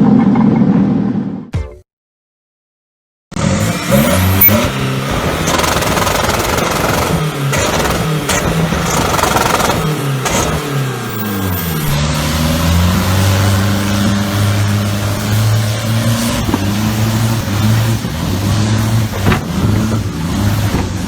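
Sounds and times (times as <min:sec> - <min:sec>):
boat engine revving: 0:03.3 - 0:21.0.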